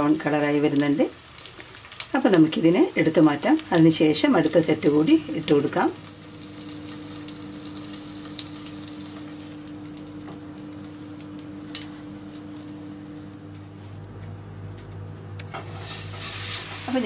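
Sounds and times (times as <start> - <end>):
meat sizzling in a frying pan: 0.0 - 13.1, 15.5 - 17.0
steady hum: 3.0 - 17.0.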